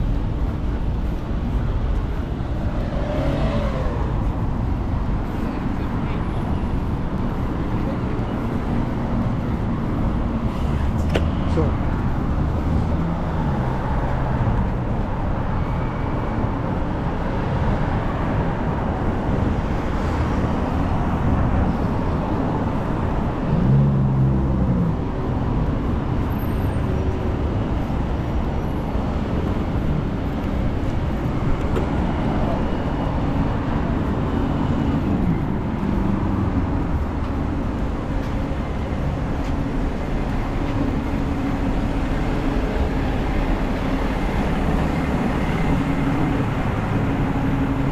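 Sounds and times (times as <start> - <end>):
road traffic passing: 0.0 - 47.9.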